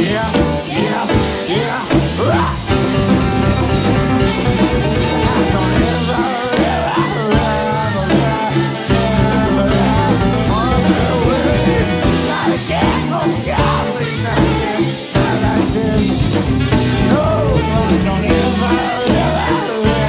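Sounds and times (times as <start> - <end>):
lead melody line: 0.0 - 20.0
live rock band playing: 0.0 - 20.0.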